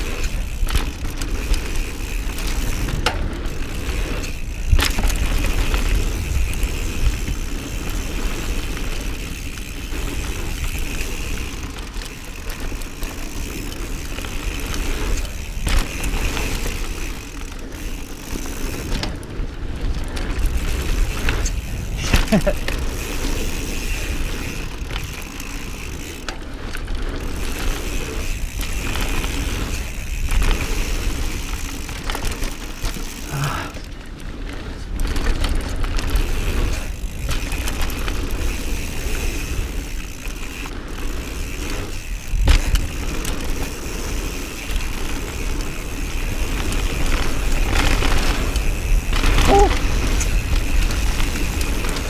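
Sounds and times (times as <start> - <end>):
bike rattling: 0.0 - 52.0
bike tyre roar: 0.0 - 52.0.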